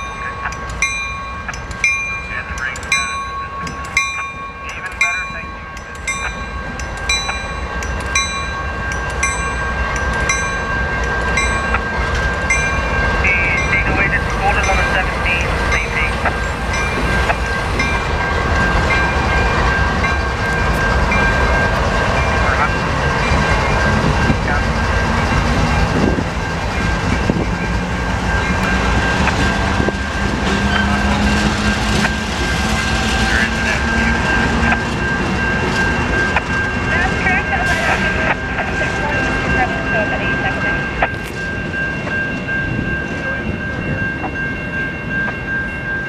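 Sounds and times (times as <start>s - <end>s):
locomotive engine rumble: 0.0s - 46.0s
train wheels clicking on rails: 5.8s - 43.2s.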